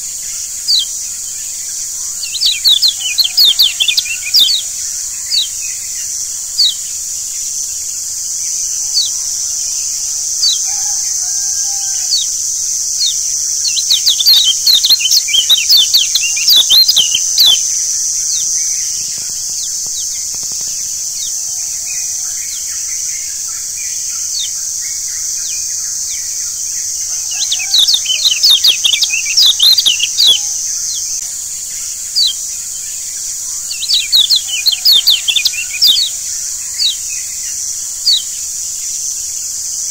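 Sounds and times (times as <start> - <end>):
birds chirping: 0.0 - 39.9
steady high-pitched hiss: 0.0 - 39.9.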